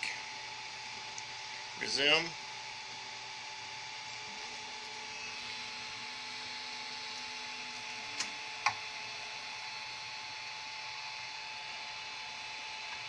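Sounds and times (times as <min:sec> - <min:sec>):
cooling fans whirring: 0:00.0 - 0:13.0
stepper motors humming: 0:00.0 - 0:13.0.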